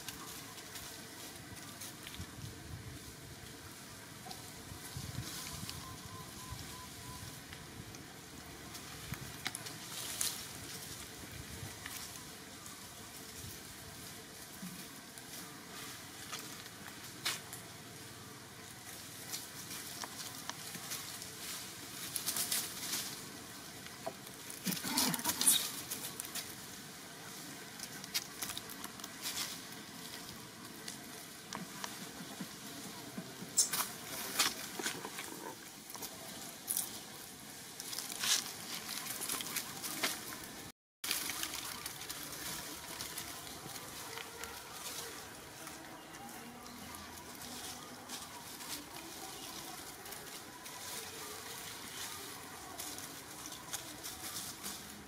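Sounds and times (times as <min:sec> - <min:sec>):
dry leaves crackling and rustling: 0:00.0 - 0:55.0
faint outdoor hiss: 0:00.0 - 0:55.0.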